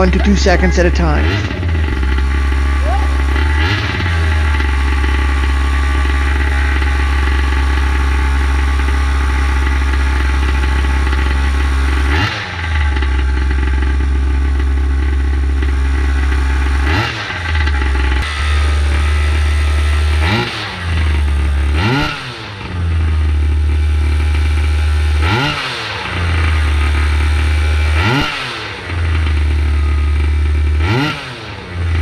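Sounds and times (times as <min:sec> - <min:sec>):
engine throttle blips: 0:00.0 - 0:32.0
small two-stroke engine idling: 0:00.0 - 0:32.0.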